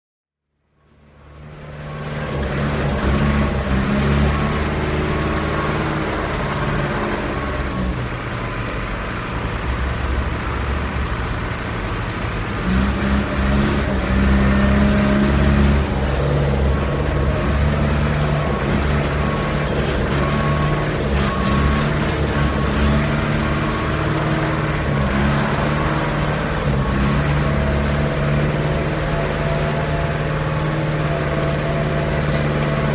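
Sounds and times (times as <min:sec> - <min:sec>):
diesel truck engine running: 0:00.8 - 0:32.9.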